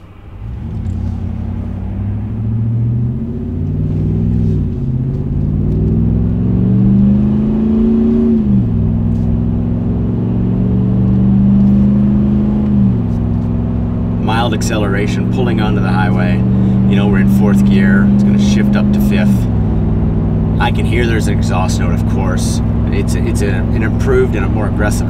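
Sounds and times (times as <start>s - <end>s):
truck engine accelerating: 0.0s - 25.0s.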